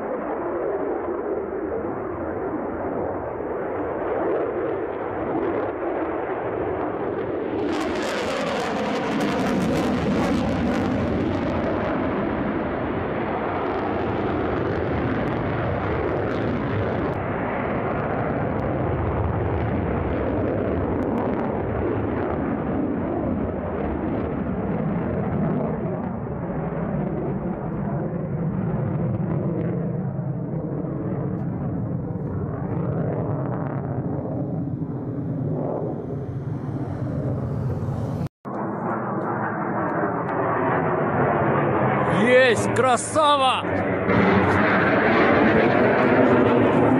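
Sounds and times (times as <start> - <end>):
fighter jet engines rumbling: 0.0 - 46.9.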